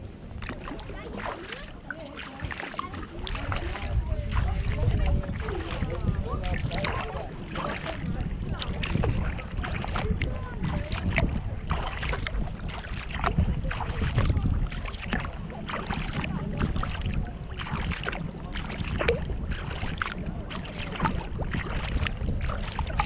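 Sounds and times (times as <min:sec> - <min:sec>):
water splashing against kayak hull: 0:00.0 - 0:23.0
wind rumble on microphone: 0:00.0 - 0:23.0.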